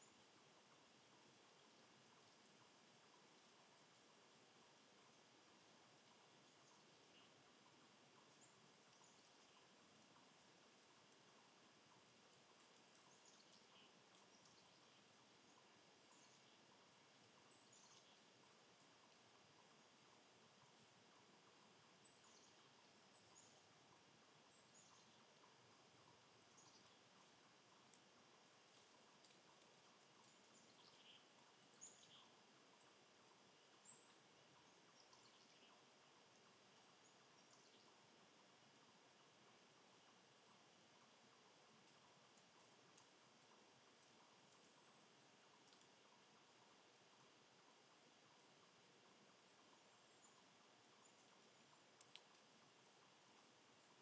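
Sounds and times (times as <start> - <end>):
faint bird chirps: 0.0 - 54.0
faint steady hiss: 0.0 - 54.0.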